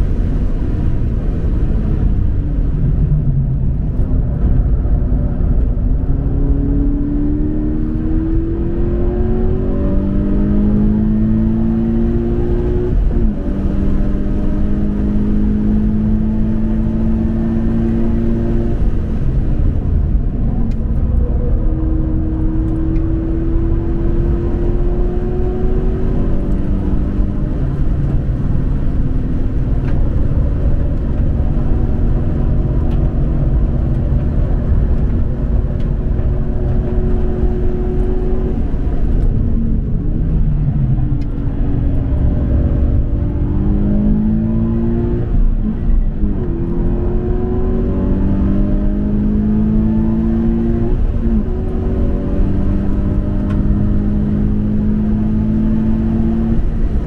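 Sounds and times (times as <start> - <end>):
car engine accelerating: 0.0 - 57.0
road and drivetrain rumble: 0.0 - 57.0.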